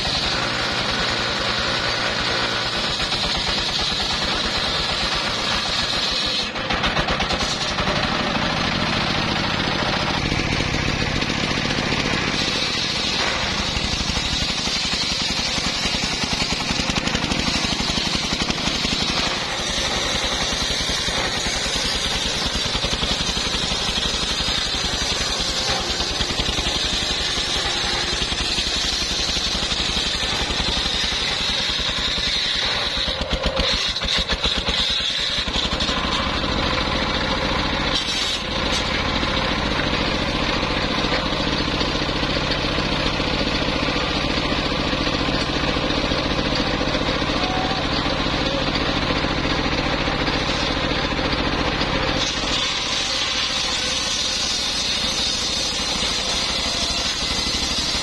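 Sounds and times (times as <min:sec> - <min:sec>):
saw blade ripping through log: 0:00.0 - 0:47.2, 0:50.0 - 0:58.0
engine droning: 0:04.8 - 0:58.0.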